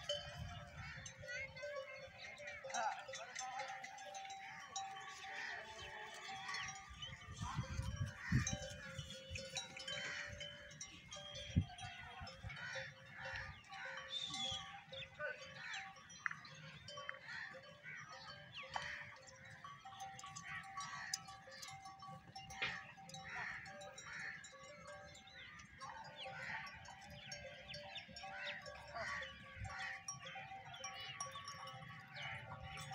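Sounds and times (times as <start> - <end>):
livestock bells tinkling: 0.0 - 32.9.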